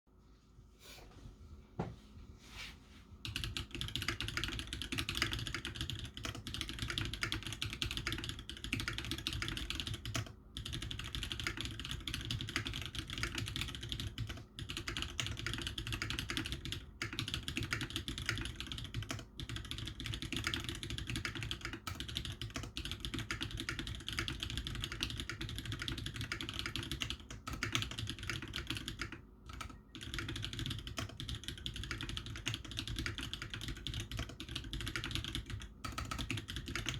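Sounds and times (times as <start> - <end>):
mechanical keyboard typing: 3.2 - 36.9.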